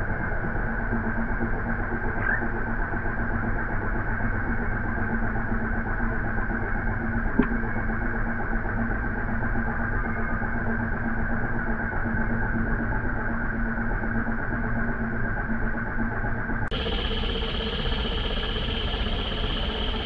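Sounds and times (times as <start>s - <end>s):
low mechanical hum with hiss: 0.0s - 20.0s.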